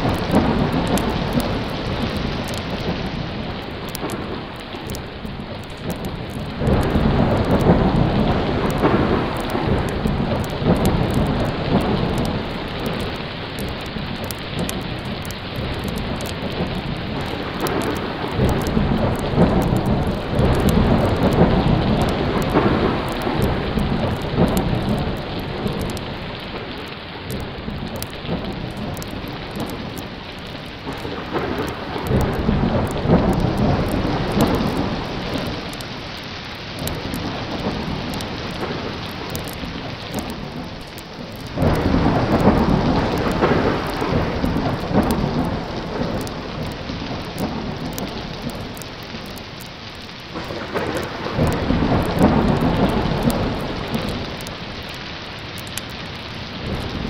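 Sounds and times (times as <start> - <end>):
heavy rain: 0.0 - 57.0
rolling thunder: 0.0 - 57.0.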